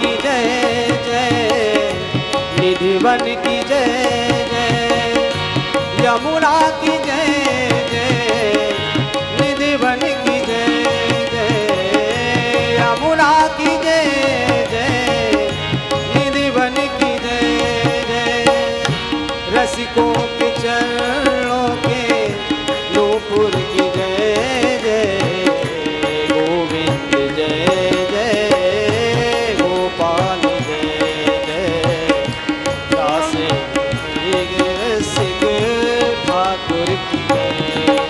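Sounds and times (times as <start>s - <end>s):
instrumental melody: 0.0s - 38.0s
tabla drumming: 0.0s - 38.0s.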